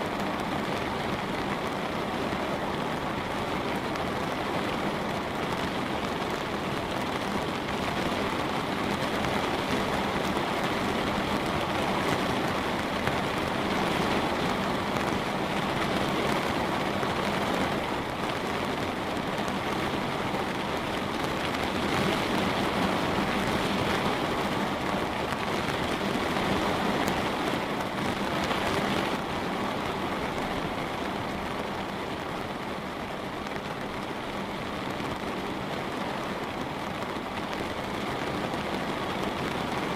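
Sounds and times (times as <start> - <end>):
light rain on a window: 0.0 - 39.9.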